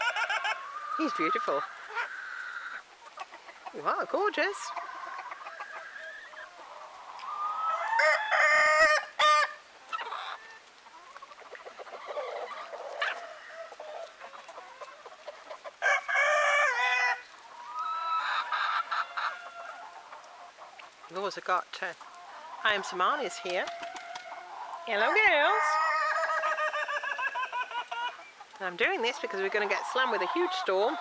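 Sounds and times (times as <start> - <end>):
roosters crowing: 0.0 - 3.5, 4.4 - 10.6, 11.9 - 20.6, 22.2 - 31.0
hens clucking: 0.0 - 31.0.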